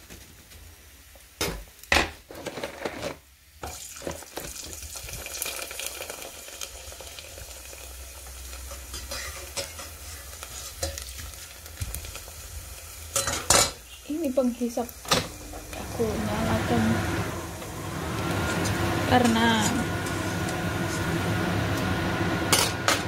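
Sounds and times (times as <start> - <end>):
cracker frying in hot oil: 0.0 - 23.0.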